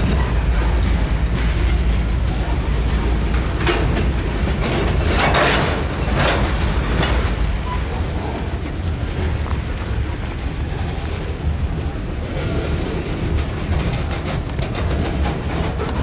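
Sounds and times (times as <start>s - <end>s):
train passing rumble: 0.0s - 16.0s
wheels rattling clatter: 0.0s - 16.0s.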